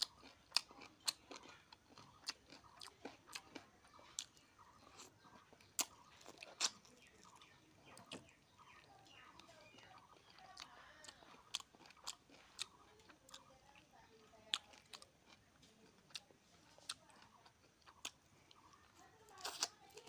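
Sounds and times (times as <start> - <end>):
man chewing food: 0.0 - 20.0.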